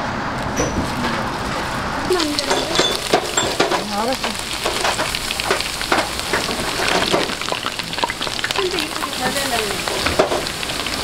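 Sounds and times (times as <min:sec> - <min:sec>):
food deep-frying in oil: 0:01.3 - 0:11.0.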